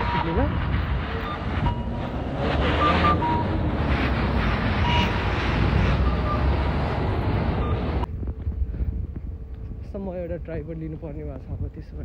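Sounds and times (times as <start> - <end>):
street traffic: 0.0 - 12.0
wind and handling rumble: 0.0 - 12.0.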